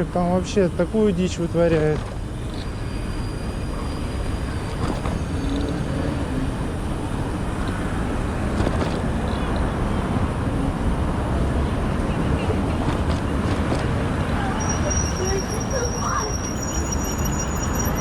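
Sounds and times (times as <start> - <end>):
road and traffic noise: 0.0 - 18.0.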